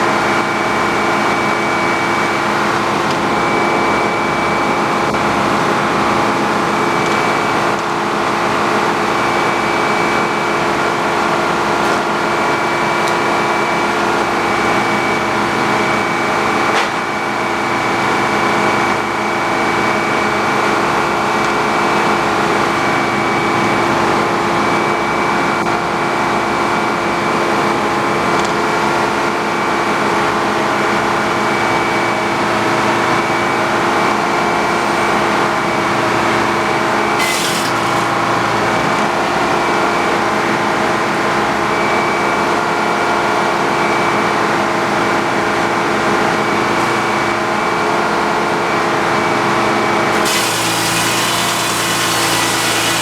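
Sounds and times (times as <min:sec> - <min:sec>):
sawmill running: 0:00.0 - 0:31.5, 0:32.2 - 0:40.0, 0:49.2 - 0:53.0.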